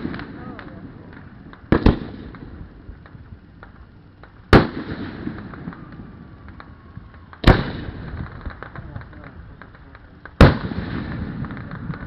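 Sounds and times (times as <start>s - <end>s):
firework pops and crackles: 0.0s - 12.0s
fireworks booming: 0.0s - 12.0s.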